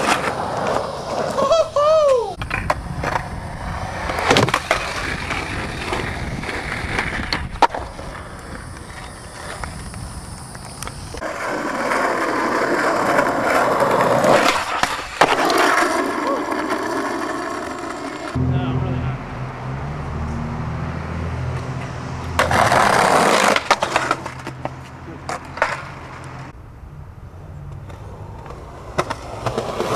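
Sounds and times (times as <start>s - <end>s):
skateboard clacking on ground: 0.0s - 18.4s, 21.6s - 26.4s, 27.7s - 29.9s
skateboard wheels rolling on concrete: 0.0s - 29.9s.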